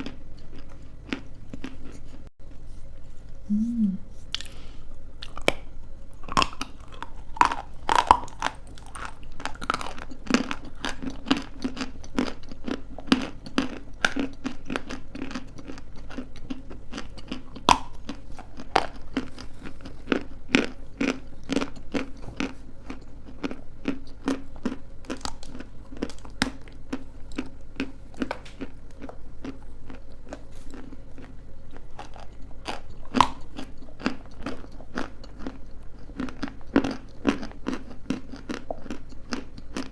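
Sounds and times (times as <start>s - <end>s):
chewing crunchy clay: 0.0s - 2.3s, 4.3s - 39.9s
low steady hum: 0.0s - 39.9s.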